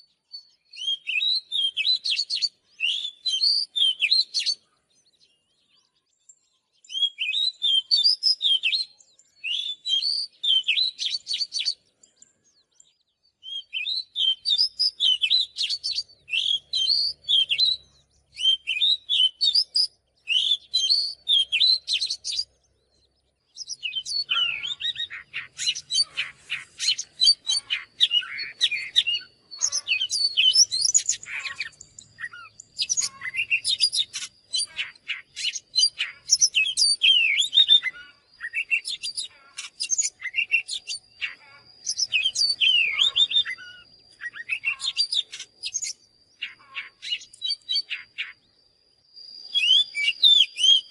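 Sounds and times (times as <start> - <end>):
bird singing whistles and chirps: 0.0 - 50.9.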